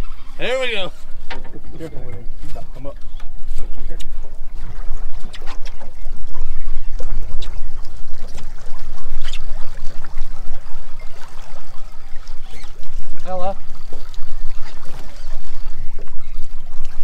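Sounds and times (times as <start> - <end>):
water lapping against hull: 0.0 - 17.0
wind rumble on microphone: 0.0 - 17.0.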